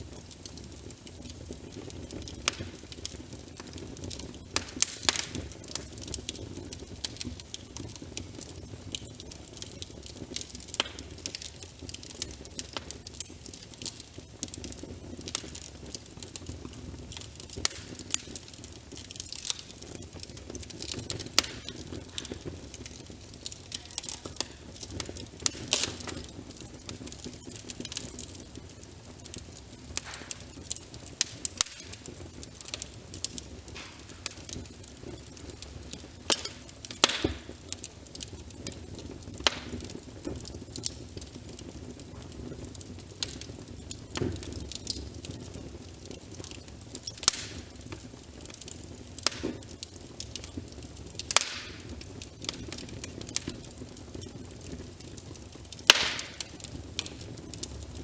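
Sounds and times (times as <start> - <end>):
rain pattering on a window: 0.0 - 58.0
wood fire crackling and popping: 0.0 - 58.0.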